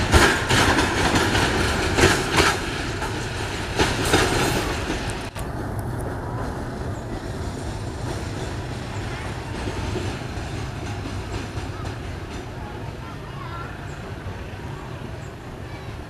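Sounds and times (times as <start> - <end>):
train wheels clacking over rail joints: 0.0 - 14.2
train rumble: 0.0 - 16.0.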